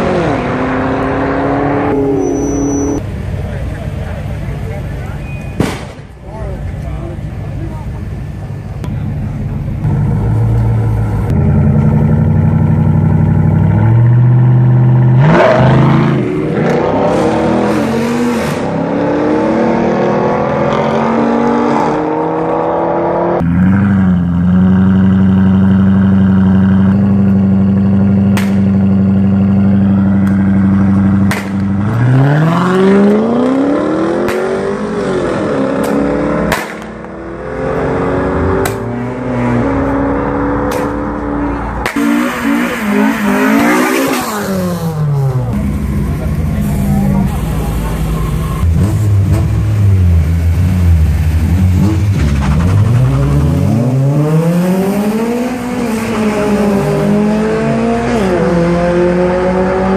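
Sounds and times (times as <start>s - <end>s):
car engine revving: 0.0s - 4.8s, 8.9s - 59.9s.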